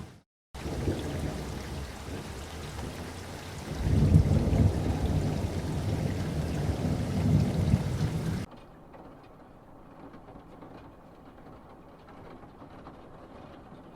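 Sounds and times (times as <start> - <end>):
steady rain: 0.0 - 13.9
low rumble of thunder: 0.6 - 13.9.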